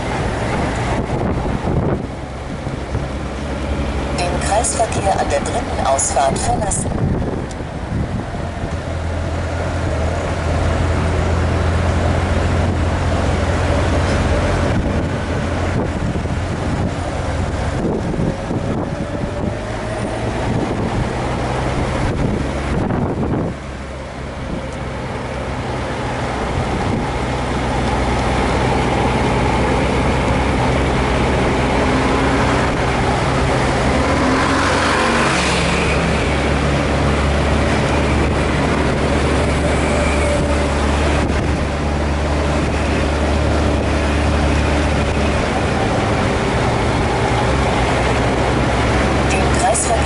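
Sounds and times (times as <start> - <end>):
road noise: 0.0 - 50.0.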